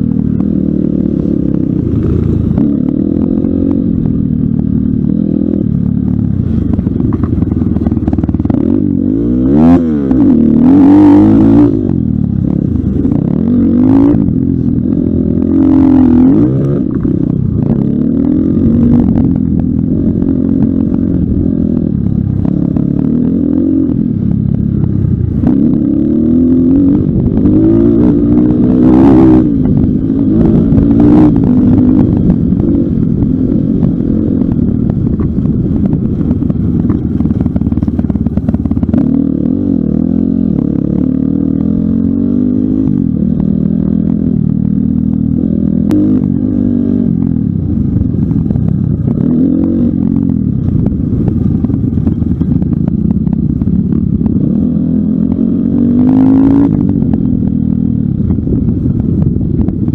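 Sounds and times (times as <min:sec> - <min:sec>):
dirt bike engine revving: 0:00.0 - 0:47.6, 0:53.6 - 0:57.1.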